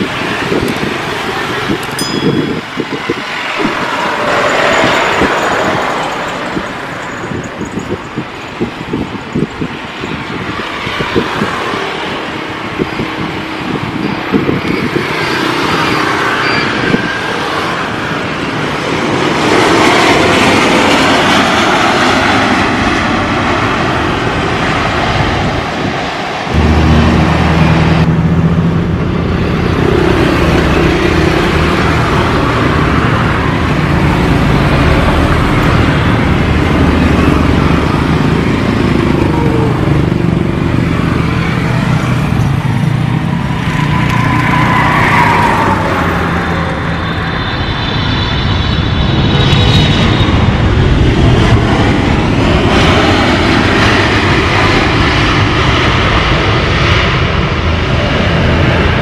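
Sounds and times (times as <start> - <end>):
jet engines rumbling: 0.0 - 59.0
rising jet whine: 0.0 - 59.0.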